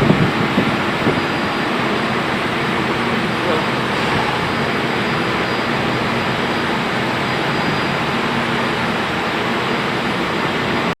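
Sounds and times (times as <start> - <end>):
boat engine running: 0.0 - 10.9
high whine: 0.0 - 10.9.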